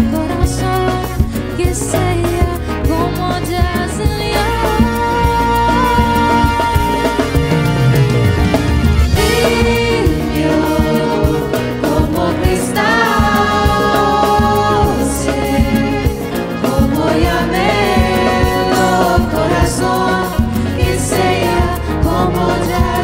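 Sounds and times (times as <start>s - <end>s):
acoustic guitar: 0.0s - 23.0s
drum kit beat: 0.0s - 23.0s
keyboards: 0.0s - 23.0s
lead voice singing: 1.8s - 8.0s, 9.0s - 23.0s
backing singers: 4.3s - 23.0s.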